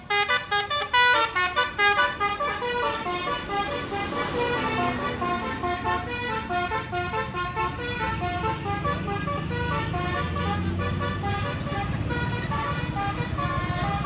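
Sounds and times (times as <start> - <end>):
bus engine running: 0.0 - 14.0
musical air horn tune: 0.0 - 14.0.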